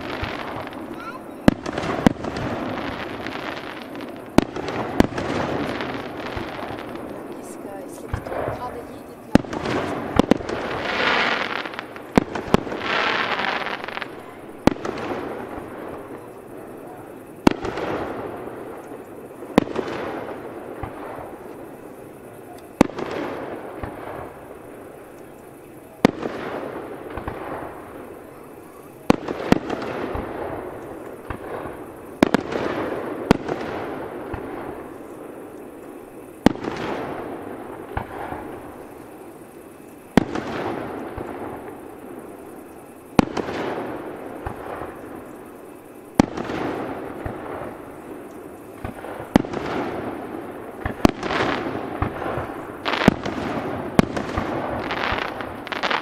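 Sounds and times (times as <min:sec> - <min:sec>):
fireworks bangs echoing: 0:00.0 - 0:56.0.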